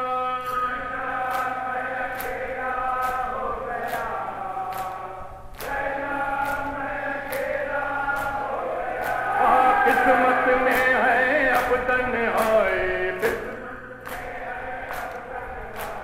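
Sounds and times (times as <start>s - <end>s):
men chanting in unison: 0.0s - 16.0s
rhythmic chest-beating: 0.0s - 16.0s.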